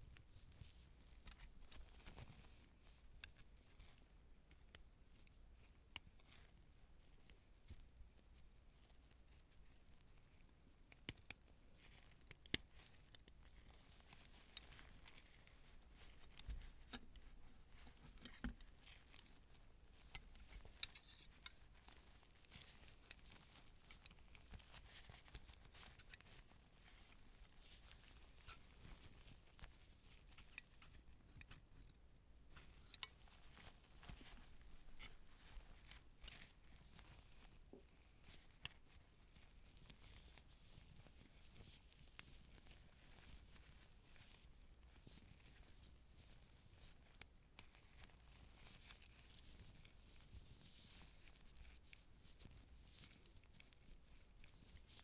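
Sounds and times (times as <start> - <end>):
faint rustling and crinkling: 0.0 - 55.0
small clicks and ticks: 0.1 - 55.0.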